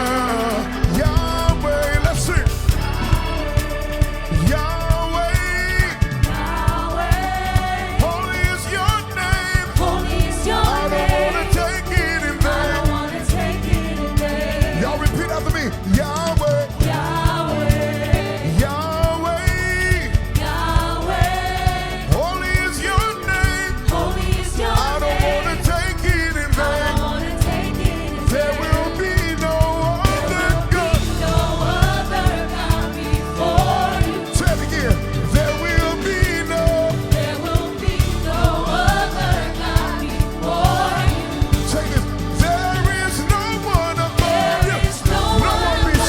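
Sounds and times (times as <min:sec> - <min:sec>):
gospel band playing: 0:00.0 - 0:46.0
lead singer singing runs: 0:00.0 - 0:46.0
steady drum beat: 0:00.0 - 0:46.0
sustained keyboard chords: 0:00.0 - 0:46.0.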